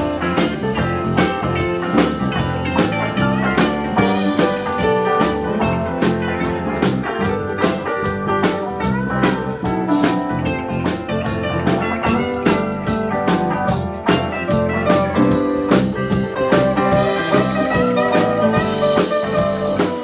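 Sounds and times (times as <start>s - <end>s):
drums keeping steady beat: 0.0s - 20.0s
live rock band playing: 0.0s - 20.0s.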